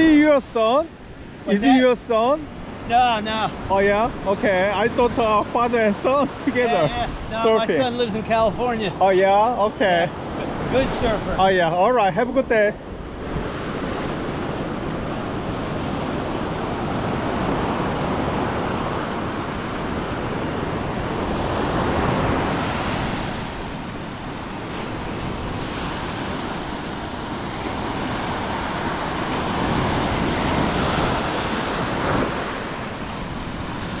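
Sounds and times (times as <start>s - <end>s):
ocean surf breaking on beach: 0.0s - 34.0s.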